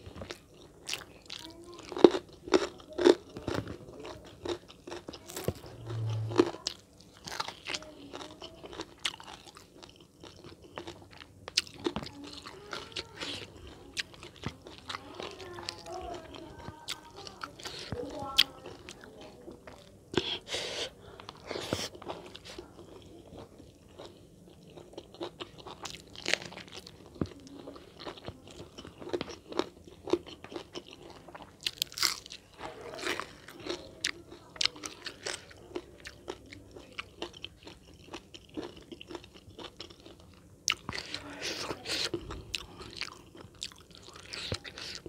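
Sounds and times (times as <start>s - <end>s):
person crunching food: 0.0s - 45.0s.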